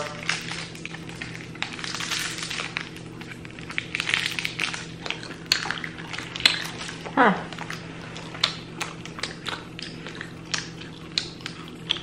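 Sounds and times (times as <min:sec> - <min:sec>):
candy crackling when bitten: 0:00.0 - 0:12.0
low steady hum: 0:00.0 - 0:12.0.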